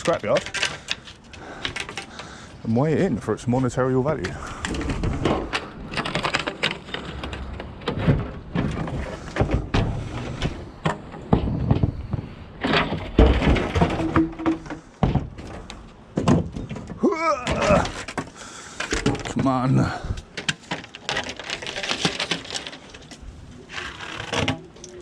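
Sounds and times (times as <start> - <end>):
plastic frames knocking and clattering: 4.2 - 24.8.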